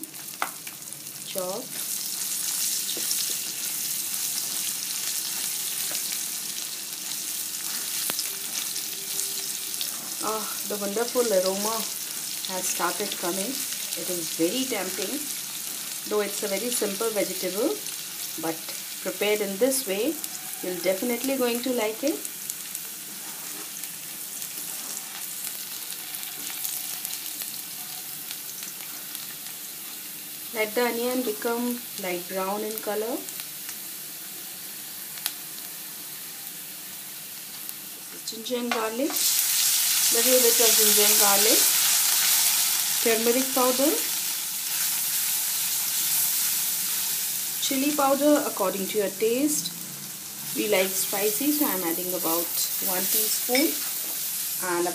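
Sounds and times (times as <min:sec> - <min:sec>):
onion sizzling in oil: 0:00.0 - 0:54.9.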